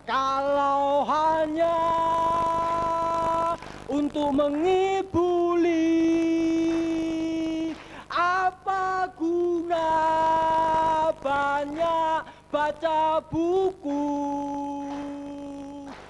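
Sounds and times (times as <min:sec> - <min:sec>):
person singing slow melody: 0:00.0 - 0:16.0.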